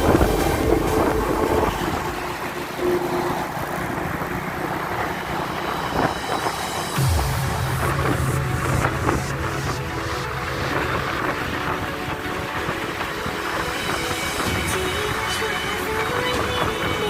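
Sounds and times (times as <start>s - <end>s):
deep steady engine note: 0.0s - 15.3s
truck engine and tyres rumbling: 0.0s - 17.0s.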